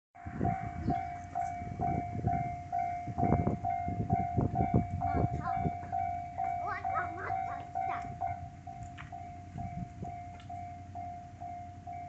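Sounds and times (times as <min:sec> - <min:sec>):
level-crossing warning bell ringing: 0:00.2 - 0:12.0.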